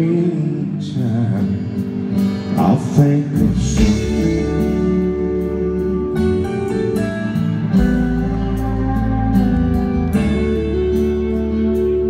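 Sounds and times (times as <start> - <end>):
country band playing: 0.0 - 12.0.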